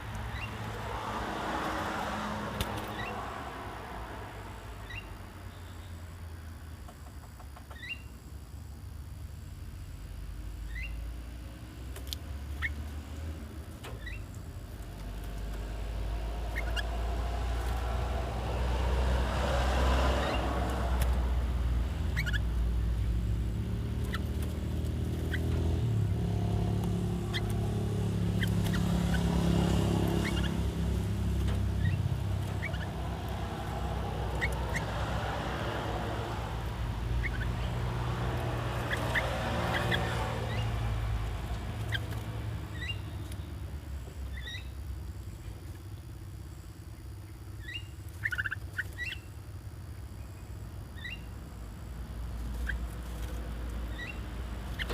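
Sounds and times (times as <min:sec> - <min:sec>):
caged birds chirping: 0:00.0 - 0:54.9
motor vehicle traffic rumble: 0:00.0 - 0:54.9.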